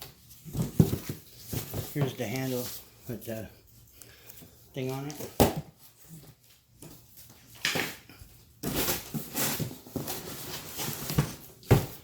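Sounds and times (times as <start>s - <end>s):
packaging rustling and scraping: 0.0s - 3.4s, 4.8s - 12.0s.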